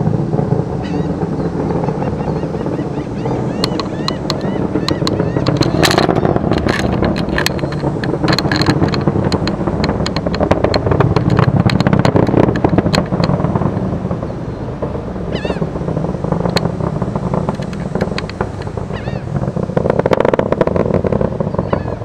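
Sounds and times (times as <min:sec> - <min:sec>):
distant rocket roar: 0:00.0 - 0:22.0.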